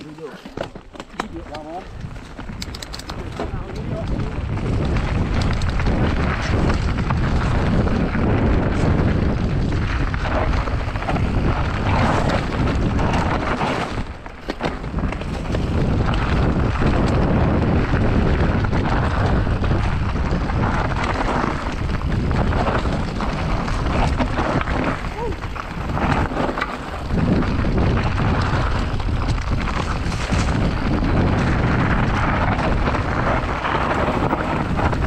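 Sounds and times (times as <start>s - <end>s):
bike rattling over bumps: 0.0s - 35.0s
tyres on loose dirt and stones: 0.0s - 35.0s
wind rushing over microphone: 1.2s - 35.0s.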